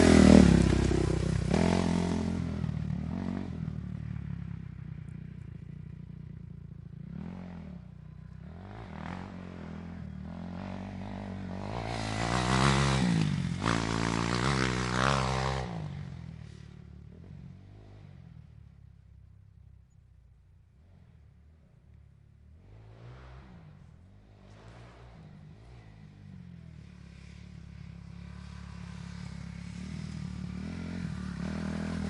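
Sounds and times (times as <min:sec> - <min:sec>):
motorcycle engine revving: 0:00.0 - 0:19.2, 0:20.7 - 0:32.0.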